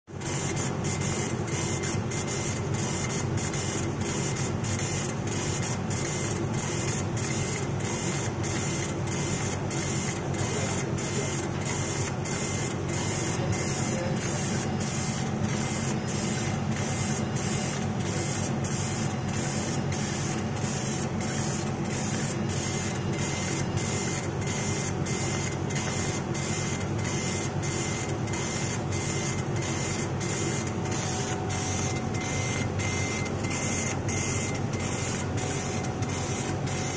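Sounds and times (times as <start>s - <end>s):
machine whirring with pulse: 0.1s - 36.9s.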